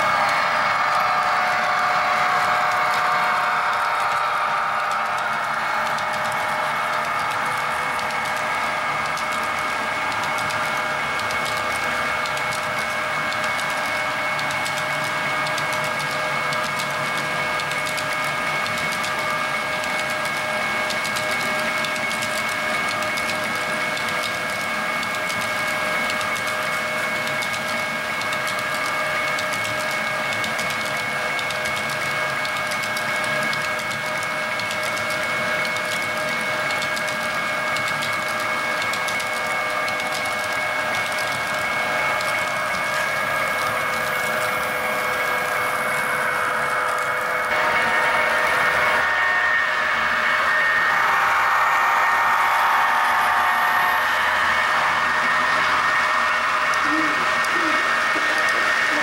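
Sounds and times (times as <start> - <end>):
steady high whine: 0.0 - 28.1, 39.0 - 59.0
model train wheels clattering: 0.0 - 49.1, 54.9 - 59.0.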